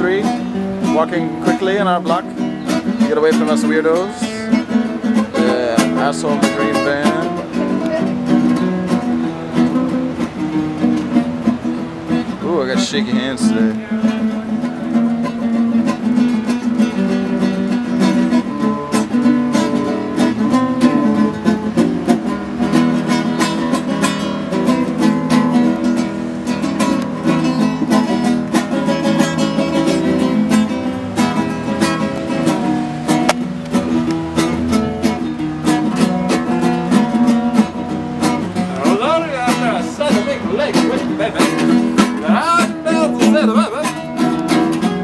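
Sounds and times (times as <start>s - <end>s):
plucked string instrument music: 0.0s - 45.0s.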